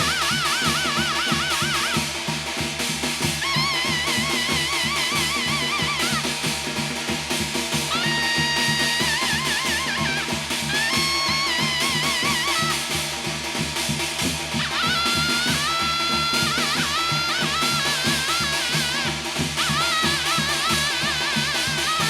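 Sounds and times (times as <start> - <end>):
fast dense drumming: 0.0 - 22.0.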